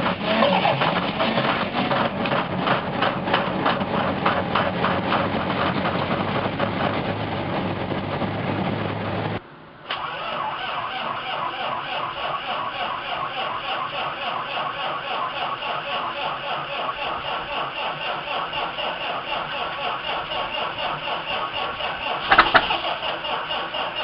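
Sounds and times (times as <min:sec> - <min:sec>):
diesel engine pulsing: 0:00.0 - 0:09.4, 0:11.2 - 0:24.0.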